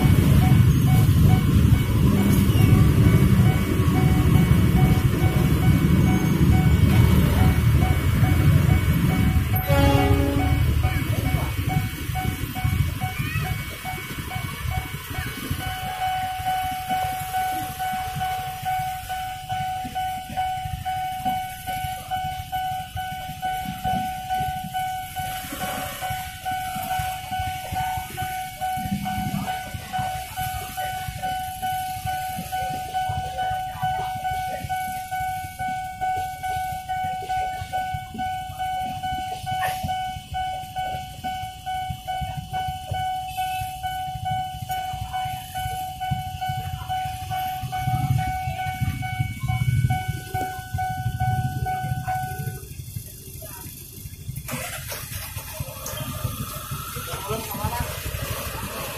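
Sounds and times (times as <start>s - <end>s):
level crossing alarm tone: 0.0s - 53.8s
electric train rumbling past: 0.0s - 58.9s.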